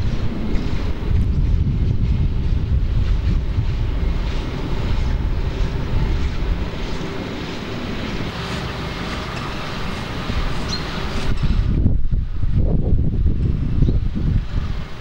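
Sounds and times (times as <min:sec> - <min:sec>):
low drone: 0:00.0 - 0:15.0
wind buffeting microphone: 0:00.0 - 0:15.0.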